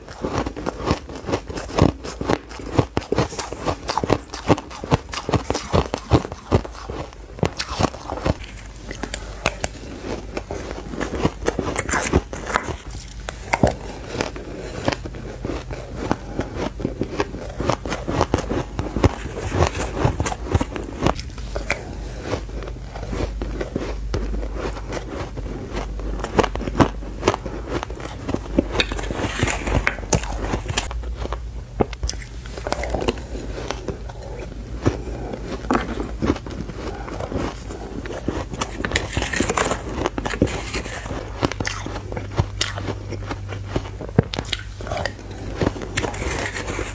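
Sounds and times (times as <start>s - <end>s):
crunching and chewing ice: 0.0s - 46.9s.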